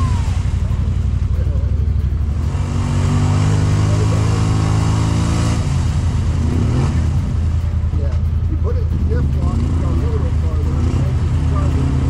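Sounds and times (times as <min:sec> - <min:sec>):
utility vehicle engine running: 0:00.0 - 0:12.0.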